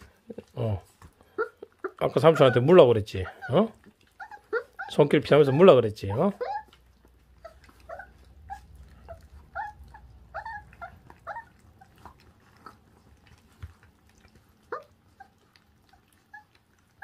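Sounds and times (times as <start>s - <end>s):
puppies chewing: 0.0s - 17.0s
puppies whining and squeaking: 0.0s - 17.0s.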